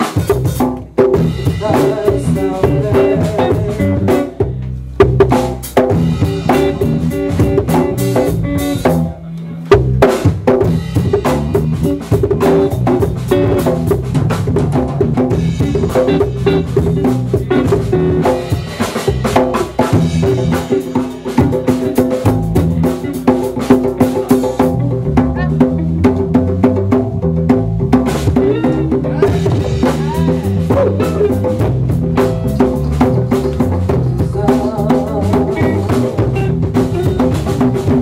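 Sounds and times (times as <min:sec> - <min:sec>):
drum kit beat: 0:00.0 - 0:38.0
live band playing: 0:00.0 - 0:38.0.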